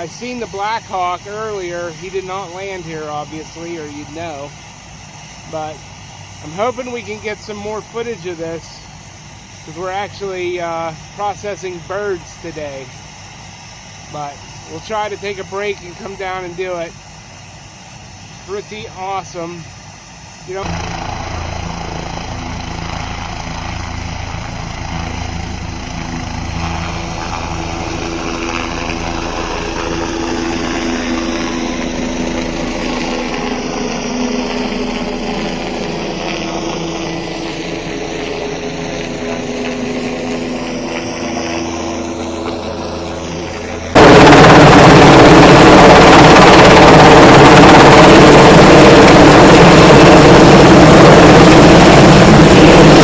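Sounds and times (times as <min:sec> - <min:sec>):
helicopter rotor and turbine drone: 0:00.0 - 0:53.0.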